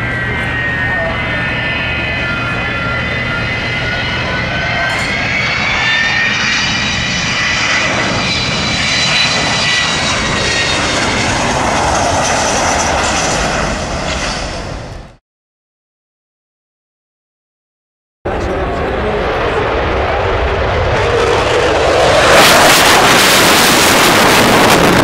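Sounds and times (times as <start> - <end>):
jet aircraft flying past: 0.0 - 15.2, 18.3 - 25.0.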